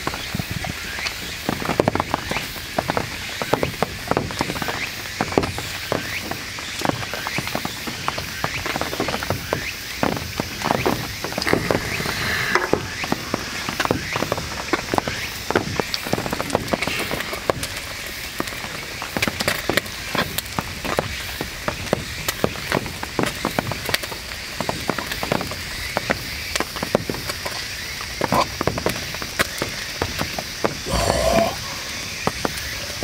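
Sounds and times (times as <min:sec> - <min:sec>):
heavy rain on a tent: 0:00.0 - 0:12.0, 0:13.0 - 0:30.8.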